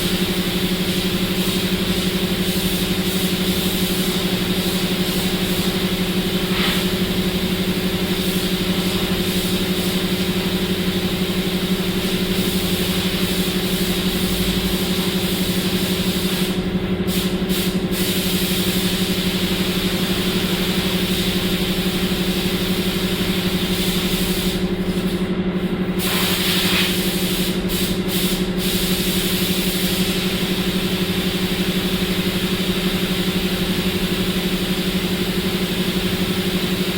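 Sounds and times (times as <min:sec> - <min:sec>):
paint spray gun hissing: 0:00.0 - 0:25.3, 0:25.9 - 0:36.9
mechanical hum: 0:00.0 - 0:36.9.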